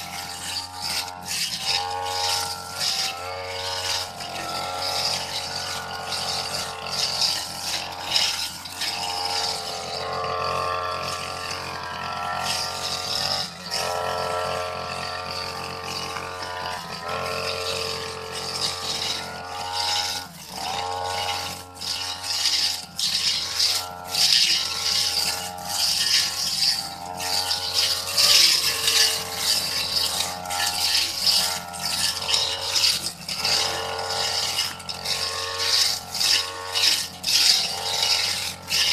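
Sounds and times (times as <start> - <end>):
brush cutter engine: 0.0 - 38.9.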